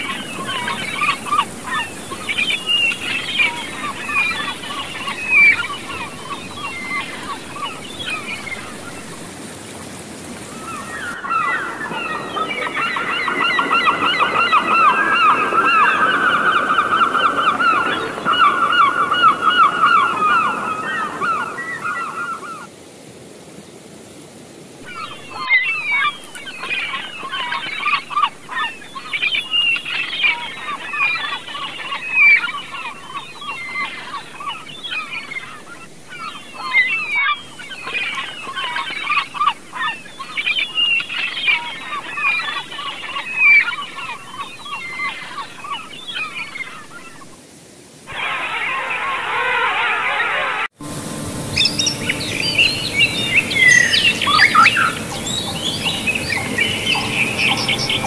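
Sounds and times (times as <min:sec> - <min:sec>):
birds calling: 0:00.0 - 0:22.7, 0:24.8 - 0:47.4, 0:48.1 - 0:58.0
stream rushing: 0:00.0 - 0:58.0.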